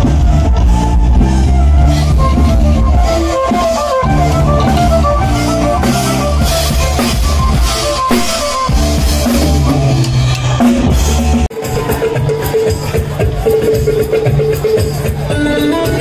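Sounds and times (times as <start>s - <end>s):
loud drum-driven band music: 0.0s - 16.0s.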